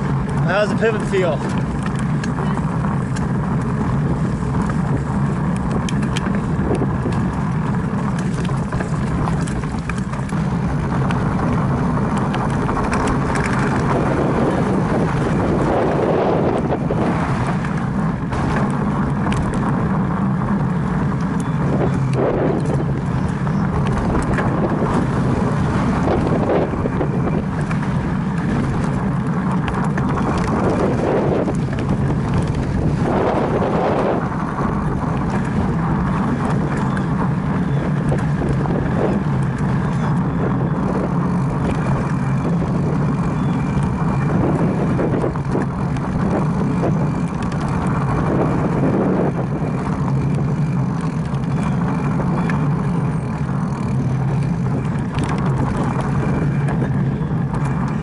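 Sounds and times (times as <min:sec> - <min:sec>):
bike tyre and trail rattle: 0:00.0 - 0:58.0
wind rumble on microphone: 0:00.0 - 0:58.0.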